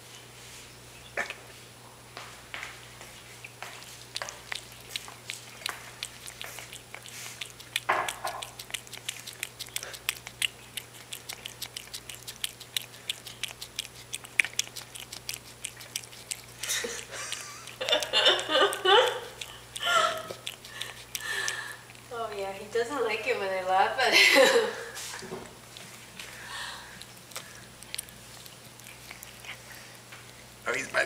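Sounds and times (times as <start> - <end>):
cat licking and nibbling: 2.9 - 22.6, 25.0 - 31.0.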